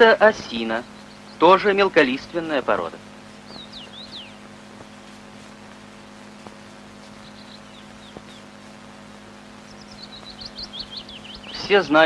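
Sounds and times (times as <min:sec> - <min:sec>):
film soundtrack hum and hiss: 0:00.0 - 0:12.0
songbird chirps: 0:00.0 - 0:12.0.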